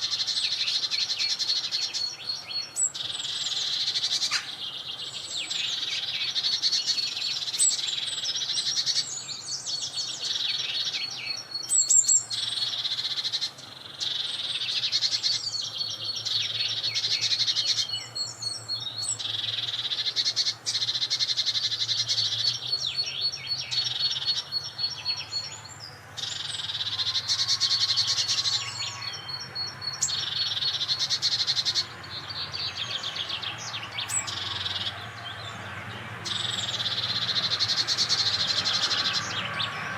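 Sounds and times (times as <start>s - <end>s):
birds trilling chirps: 0.0s - 39.9s.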